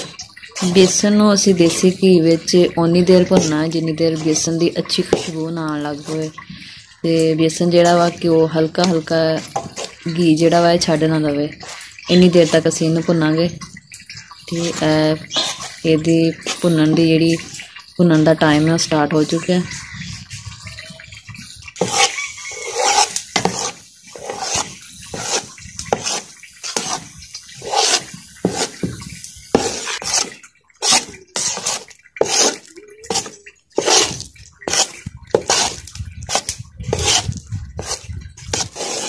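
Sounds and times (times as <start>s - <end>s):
ladle scraping pot: 0.0s - 17.8s, 18.4s - 39.0s.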